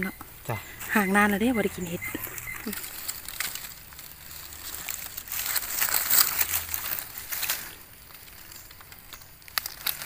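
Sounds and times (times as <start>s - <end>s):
dry leaves and twigs crackling: 0.2s - 10.0s.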